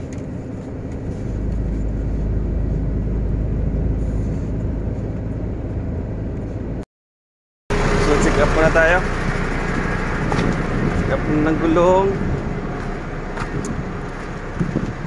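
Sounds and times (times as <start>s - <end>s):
truck engine and tyre drone: 0.0s - 6.8s, 7.7s - 15.0s.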